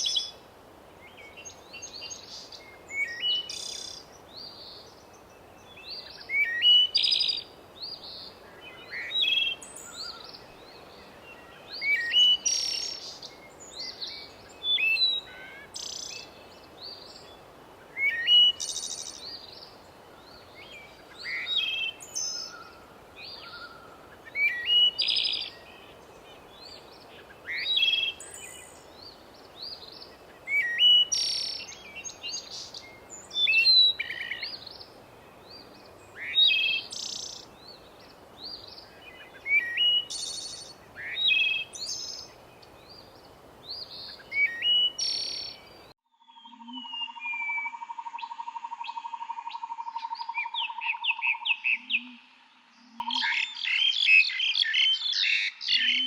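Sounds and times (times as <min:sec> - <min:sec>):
soft steady background hiss: 0:00.0 - 0:46.0
birds chirping: 0:01.1 - 0:46.6.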